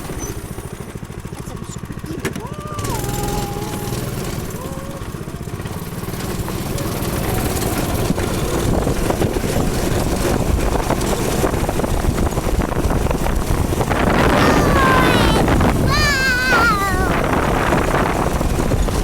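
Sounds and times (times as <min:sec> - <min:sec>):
go-kart engine running: 0:00.0 - 0:19.0.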